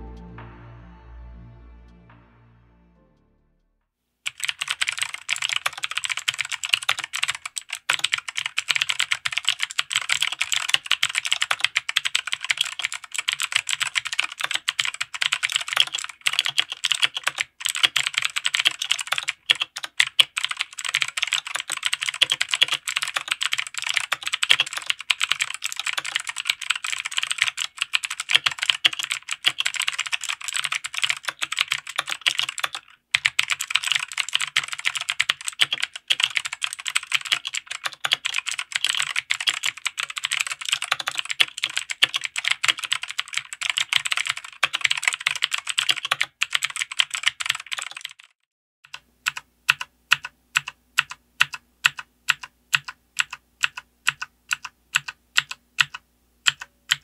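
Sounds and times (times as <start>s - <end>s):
mechanical keyboard typing: 4.3s - 57.0s.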